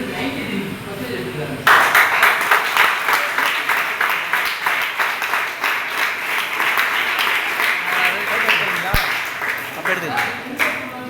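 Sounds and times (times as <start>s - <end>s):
crowd applauding: 1.6s - 11.0s.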